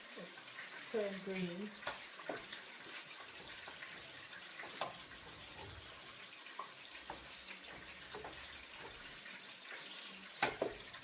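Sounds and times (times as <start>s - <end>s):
food stirred in a pot: 0.0s - 11.0s.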